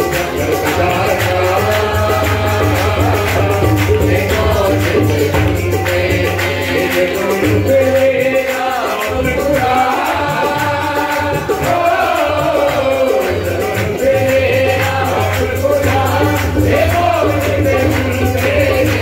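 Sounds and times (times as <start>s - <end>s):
harmonium: 0.0s - 19.0s
man singing: 0.0s - 19.0s
tabla drumming: 0.0s - 19.0s.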